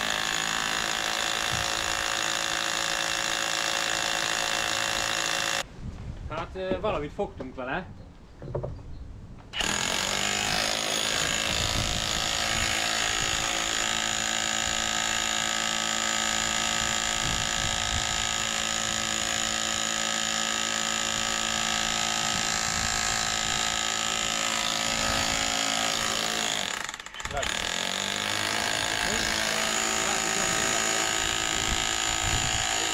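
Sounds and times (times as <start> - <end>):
hammer drill motor whine: 0.0 - 5.6, 9.6 - 32.9.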